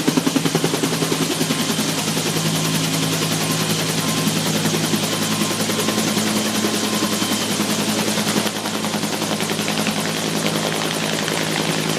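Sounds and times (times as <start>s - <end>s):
helicopter rotor and turbine engine: 0.0s - 11.9s.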